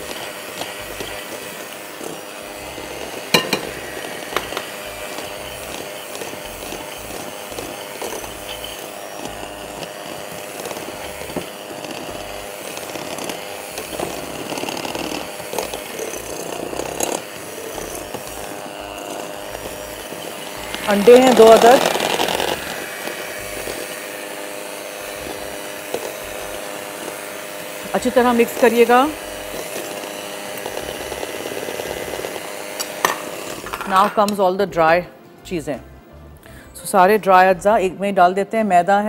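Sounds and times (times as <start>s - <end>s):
electric hand mixer running: 0.0s - 34.4s.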